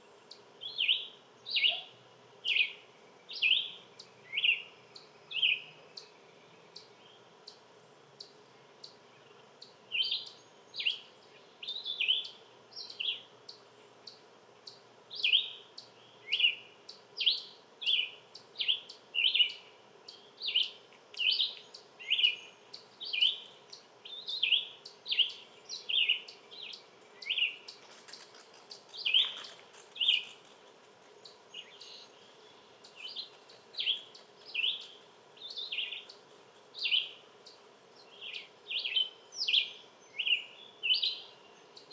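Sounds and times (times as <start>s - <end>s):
bird chirping: 0.0s - 41.9s.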